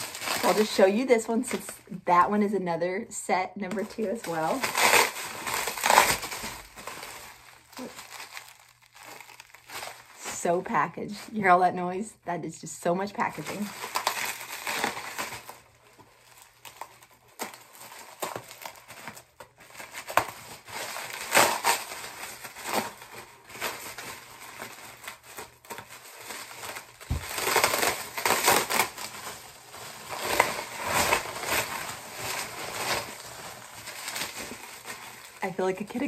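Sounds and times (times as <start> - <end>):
bubble wrap crinkling: 0.0 - 36.0.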